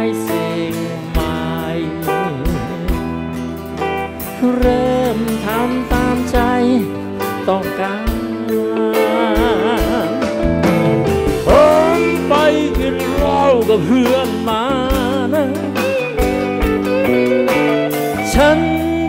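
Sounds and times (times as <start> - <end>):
lead melody with bends: 0.0 - 19.0
live rock band playing: 0.0 - 19.0
sustained electric bass: 0.0 - 19.0.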